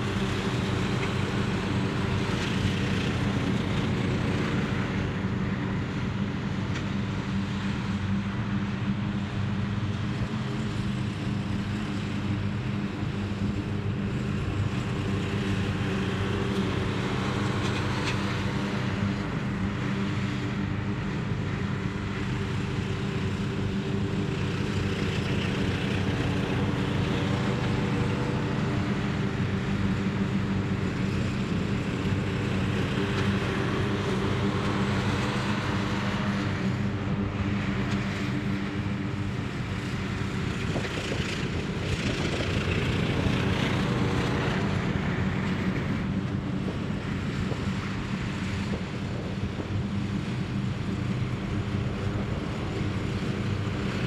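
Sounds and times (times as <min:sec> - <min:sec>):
riding lawn mowers droning: 0:00.0 - 0:54.0.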